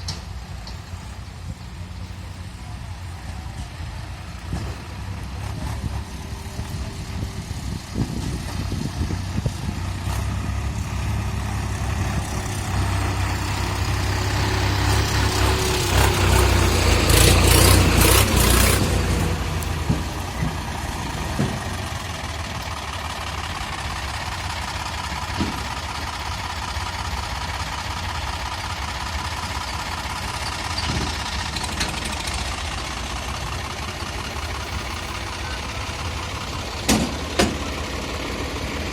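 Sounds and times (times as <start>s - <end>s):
faint engine knocks: 0.0s - 26.8s, 29.9s - 38.5s
diesel engine idling: 0.0s - 38.9s.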